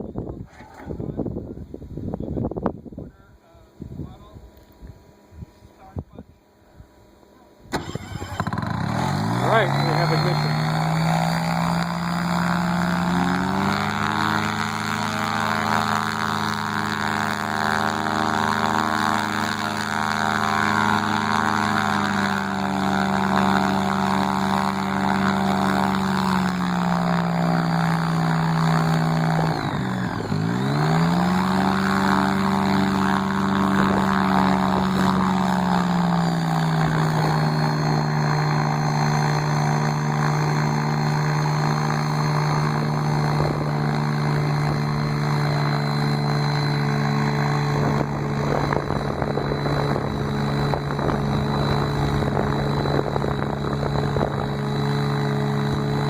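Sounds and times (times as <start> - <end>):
propeller engine revving: 7.6 - 56.0.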